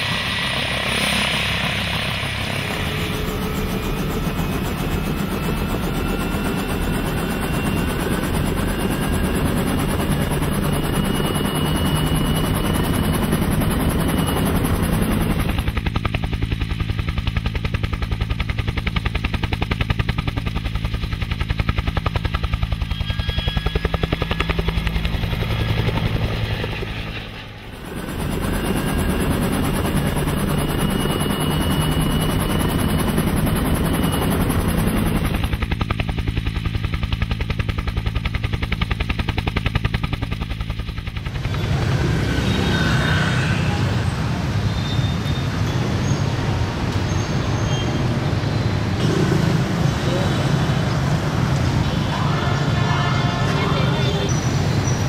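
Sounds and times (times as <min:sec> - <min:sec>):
helicopter rotors chopping: 0:00.0 - 0:44.5.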